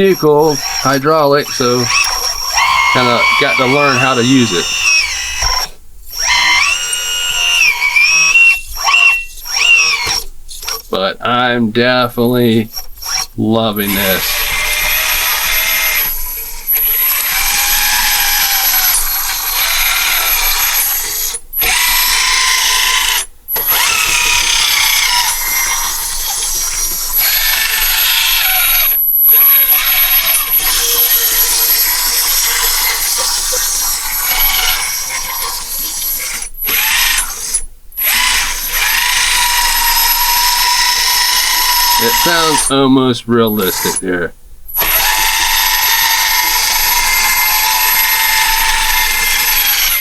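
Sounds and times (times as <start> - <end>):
hydraulic pump and motors whining: 0.0 - 11.1, 11.8 - 50.0.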